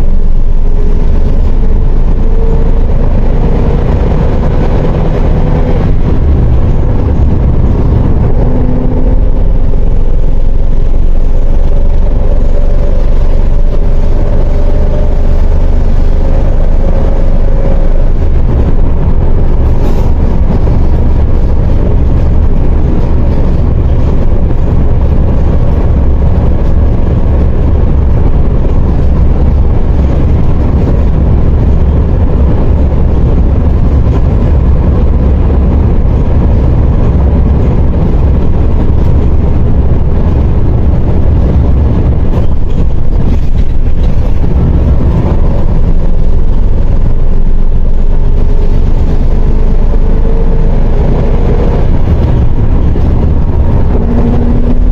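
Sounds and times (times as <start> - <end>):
bus engine and road rumble: 0.0 - 54.9
rising engine whine: 0.0 - 54.9.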